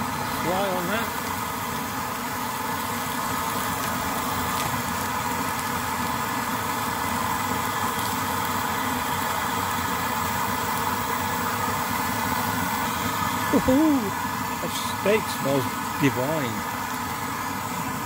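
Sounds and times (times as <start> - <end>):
steak sizzling in a frying pan: 0.0 - 18.0.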